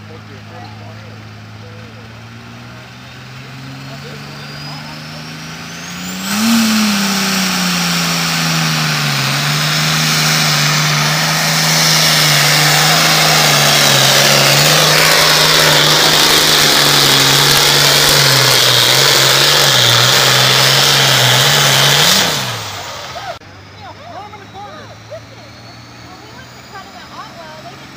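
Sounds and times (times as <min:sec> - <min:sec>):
diesel tractor engine under load: 0:00.0 - 0:27.9.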